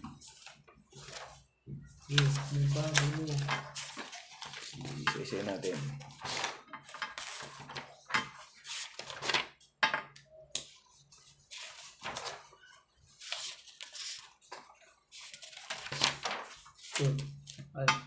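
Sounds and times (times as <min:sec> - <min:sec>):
paper pages rustling: 0:00.0 - 0:09.6, 0:10.5 - 0:17.7.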